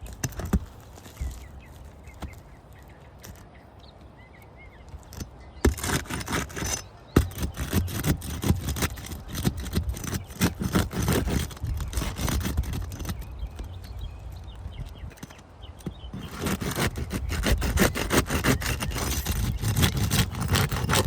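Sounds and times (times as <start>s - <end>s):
tool scraping under roof shingles: 0.0s - 4.0s, 4.8s - 21.0s.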